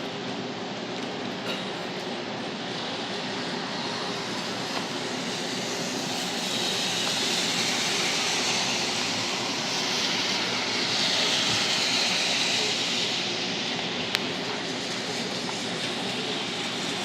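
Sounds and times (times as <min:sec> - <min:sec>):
wind: 0:00.0 - 0:17.0
rain: 0:02.6 - 0:17.0.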